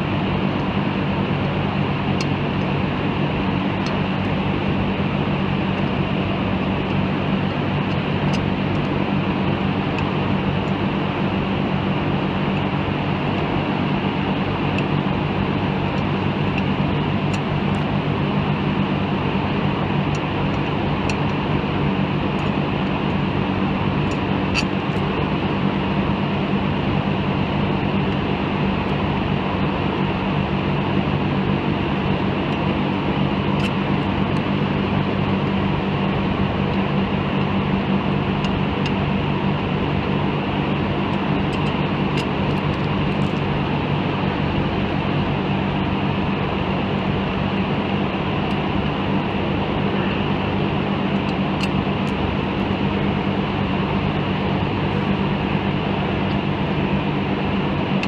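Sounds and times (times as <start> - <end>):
machinery hum: 0.0 - 58.0.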